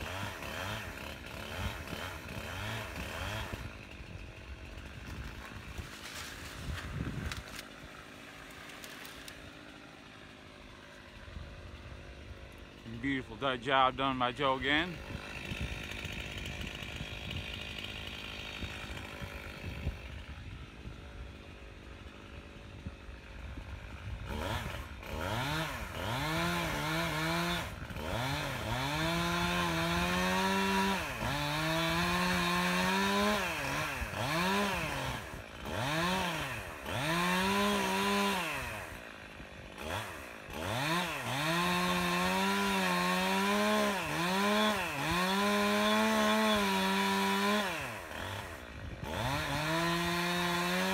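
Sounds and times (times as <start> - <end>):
chain cutting wood: 0.0 - 9.8, 12.8 - 20.1, 24.3 - 50.9
chainsaw revving: 0.0 - 50.9.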